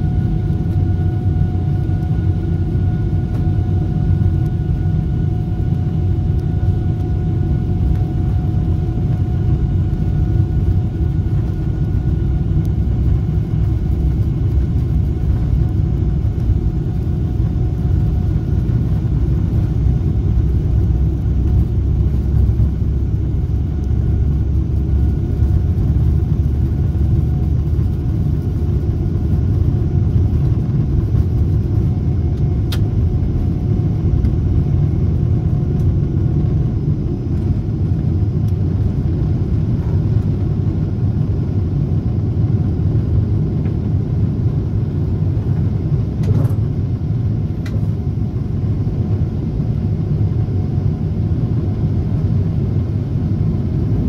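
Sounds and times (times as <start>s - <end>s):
faint engine whine: 0.0s - 54.0s
jet engines rumbling: 0.0s - 54.0s.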